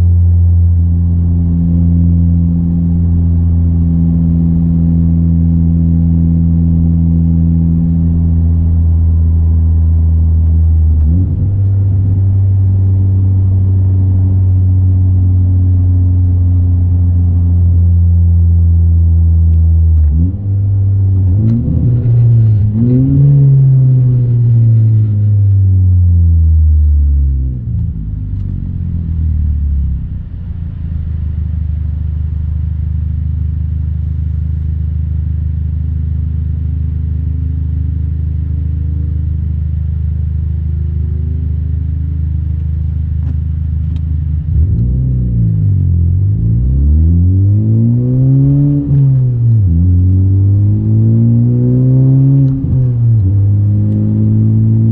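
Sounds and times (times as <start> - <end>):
car exhaust drone in cabin: 0.0 - 54.9.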